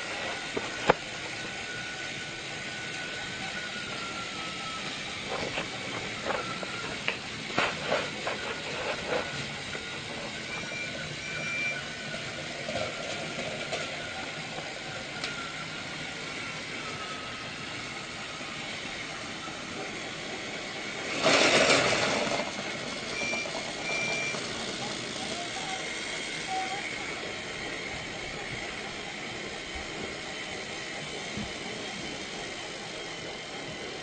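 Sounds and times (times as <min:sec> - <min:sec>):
train running: 0:00.0 - 0:34.0.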